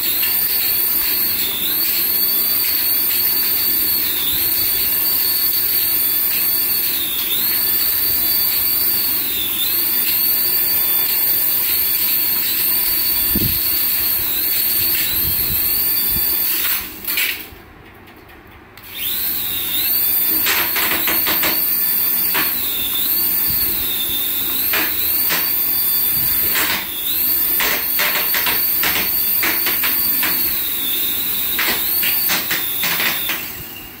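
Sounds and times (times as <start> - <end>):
toy electric motor whining: 0.0 - 17.3, 18.8 - 34.0.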